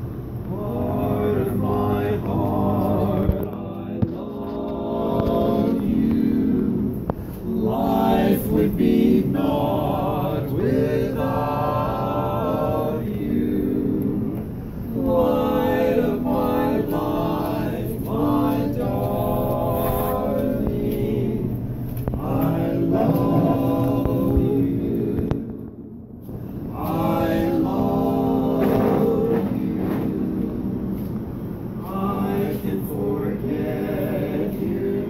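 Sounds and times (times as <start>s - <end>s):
male quartet singing a cappella: 0.5s - 25.6s, 26.7s - 31.1s, 31.7s - 35.0s.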